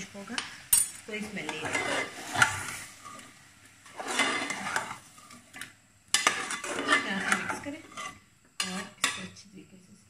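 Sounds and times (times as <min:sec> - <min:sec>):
metal spatula scraping a pot: 0:00.4 - 0:09.3.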